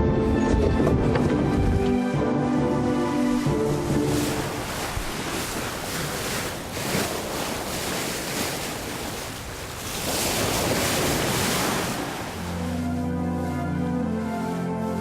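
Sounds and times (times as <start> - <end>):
wind blowing: 0.5 - 15.0
sea waves rushing: 0.7 - 15.0.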